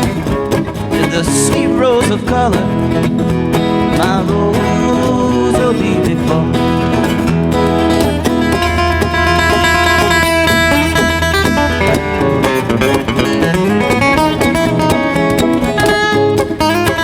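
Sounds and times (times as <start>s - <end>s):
acoustic guitars playing bluegrass: 0.0s - 17.0s.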